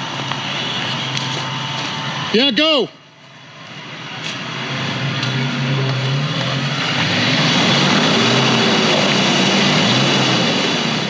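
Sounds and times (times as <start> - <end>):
truck engine droning under load: 0.0 - 11.0.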